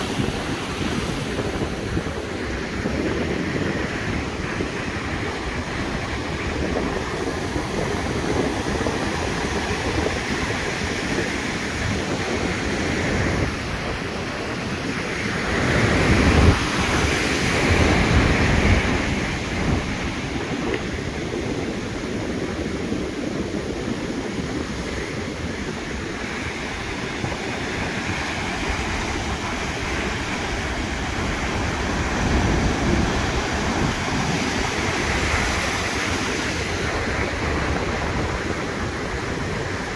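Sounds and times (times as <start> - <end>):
surf breaking on shore: 0.0 - 39.9
wind buffeting microphone: 0.0 - 39.9.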